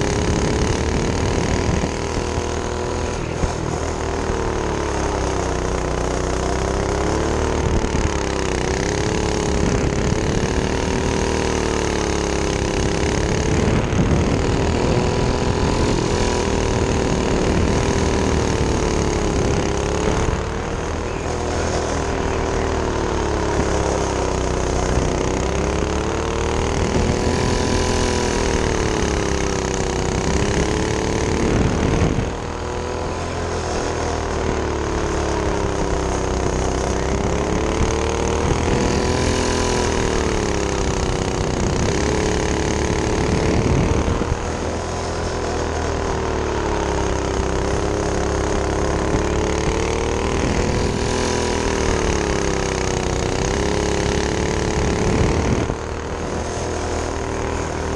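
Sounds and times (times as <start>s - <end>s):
go-kart engine revving: 0.0s - 57.9s.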